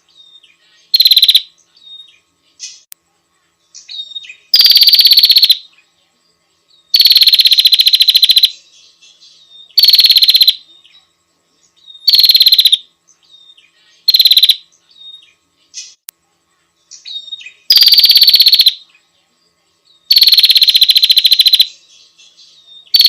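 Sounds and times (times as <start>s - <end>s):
bird buzzy trills: 0.0s - 5.9s, 6.6s - 23.0s.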